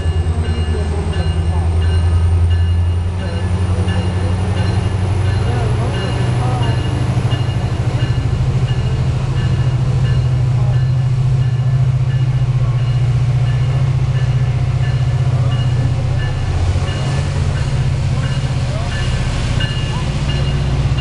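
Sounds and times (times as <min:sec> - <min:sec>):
diesel locomotive droning: 0:00.0 - 0:21.0
high dinging bell: 0:00.0 - 0:21.0.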